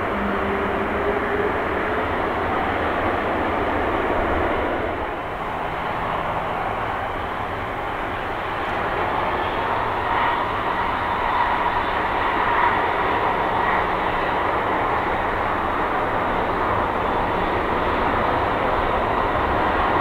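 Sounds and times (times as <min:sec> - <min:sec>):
faint engine whine: 0:00.0 - 0:20.0
jet engine rumble: 0:00.0 - 0:20.0.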